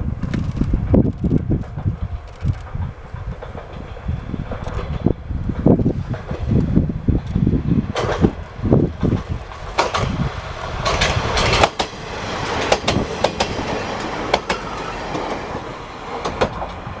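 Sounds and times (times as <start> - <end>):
train engine rumble: 0.0 - 17.0
train wheels clacking over rail joints: 0.0 - 17.0.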